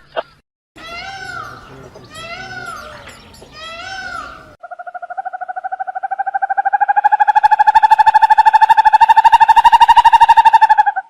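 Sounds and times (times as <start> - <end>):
rapid pulsing animal trill: 0.8 - 11.0
rising and falling animal calls: 0.8 - 11.0.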